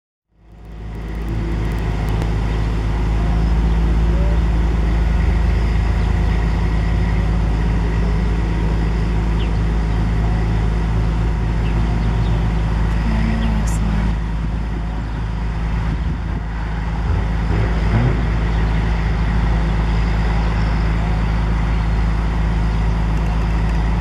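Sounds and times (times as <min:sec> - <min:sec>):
large engine humming: 0:00.3 - 0:24.0.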